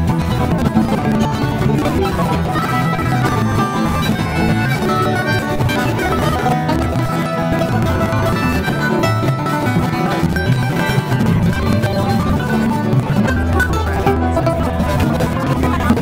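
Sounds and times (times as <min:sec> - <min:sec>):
harmonica: 0:00.0 - 0:16.0
picked banjo: 0:00.0 - 0:16.0
strummed acoustic guitar: 0:00.0 - 0:16.0.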